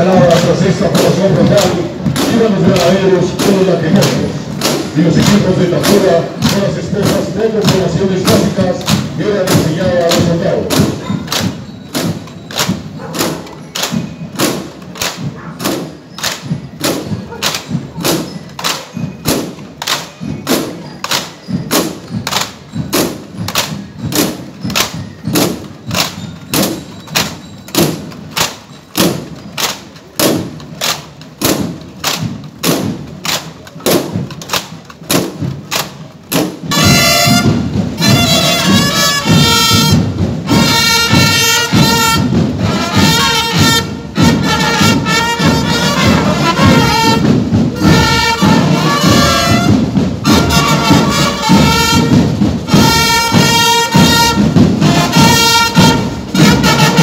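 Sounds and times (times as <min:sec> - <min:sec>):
brass band playing: 0:00.0 - 0:57.0
marching footsteps thumping: 0:00.0 - 0:57.0.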